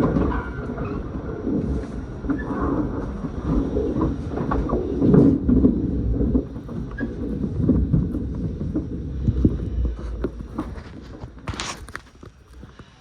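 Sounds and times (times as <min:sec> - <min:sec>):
rattles and knocks: 0:00.0 - 0:12.8
train wheels rumbling on rails: 0:00.0 - 0:13.0.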